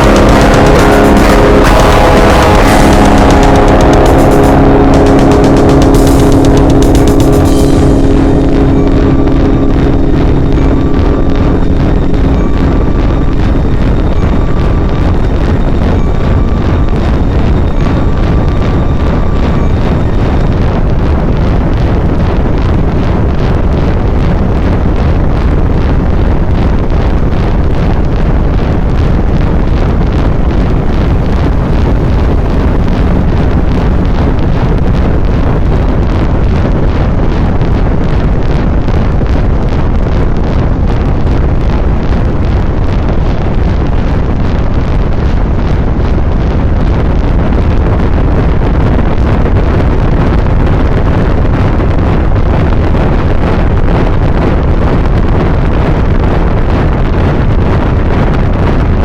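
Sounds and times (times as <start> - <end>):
loud steady rushing noise: 0.0 - 59.0.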